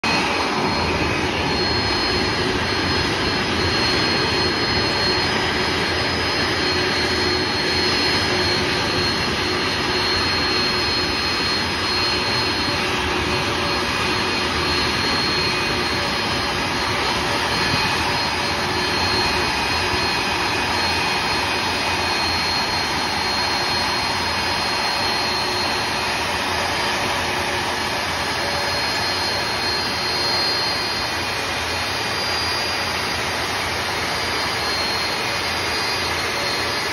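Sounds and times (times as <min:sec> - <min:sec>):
jet engines idling: 0:00.0 - 0:36.9.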